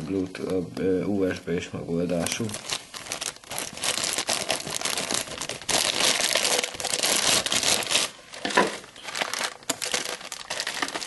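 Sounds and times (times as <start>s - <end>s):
plastic bag crinkling: 2.1s - 11.0s.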